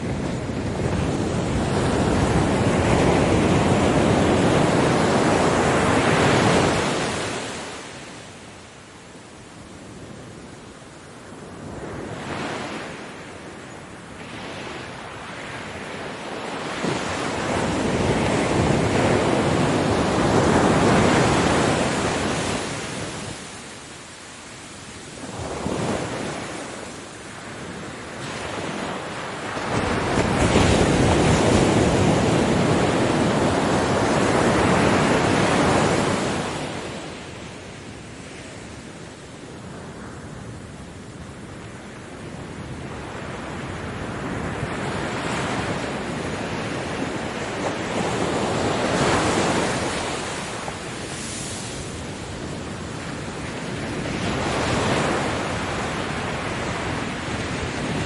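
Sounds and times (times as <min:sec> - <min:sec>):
ocean waves breaking: 0:00.0 - 0:08.5, 0:14.0 - 0:41.2, 0:42.7 - 0:58.0
wind on microphone: 0:00.0 - 0:58.0.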